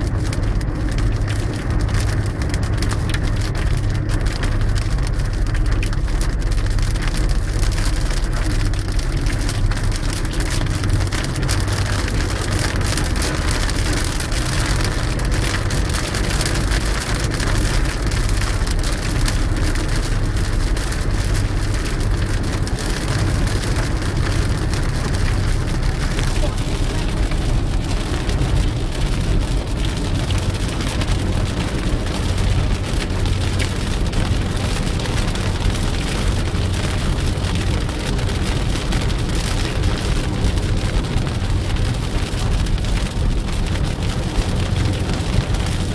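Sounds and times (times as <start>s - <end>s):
car rumbling: 0.0s - 45.9s
steady rain falling: 0.0s - 45.9s.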